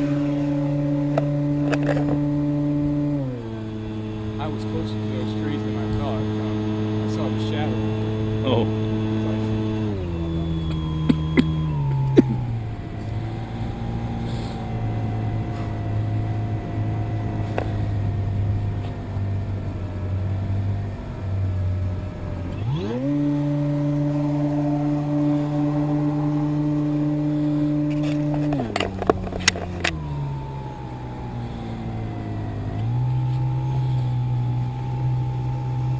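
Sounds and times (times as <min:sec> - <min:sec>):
electric motor and propeller: 0:00.0 - 0:35.9.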